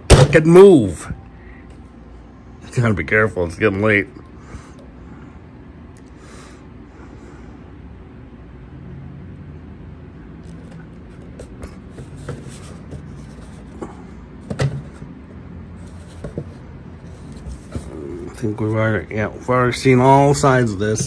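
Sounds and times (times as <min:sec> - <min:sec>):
room fan humming: 0:00.0 - 0:21.0.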